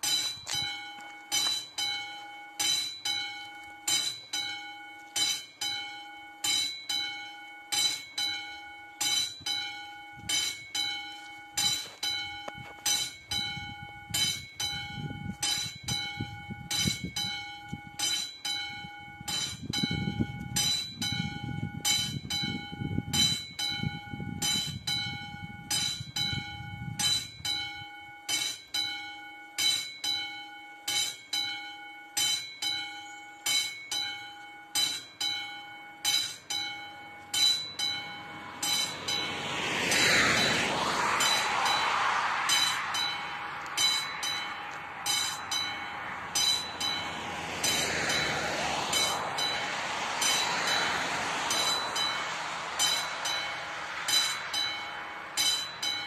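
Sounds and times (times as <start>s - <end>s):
level crossing warning bell: 0.0s - 56.0s.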